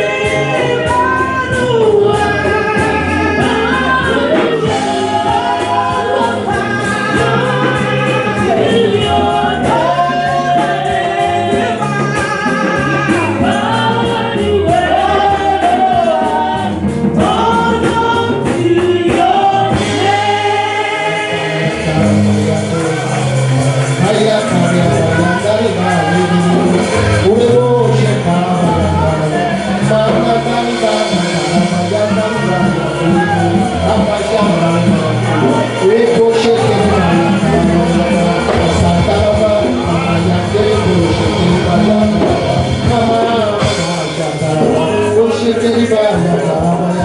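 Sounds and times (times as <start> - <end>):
band with bass and percussion: 0.0 - 47.0
gospel choir singing: 0.0 - 47.0.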